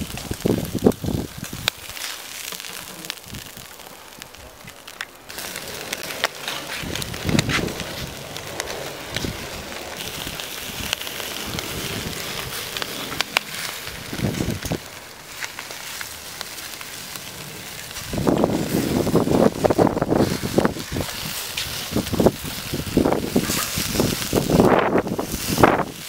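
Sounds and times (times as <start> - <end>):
wind on microphone: 0.0 - 2.0, 3.1 - 26.0
eel sizzling on charcoal grill: 0.0 - 26.0.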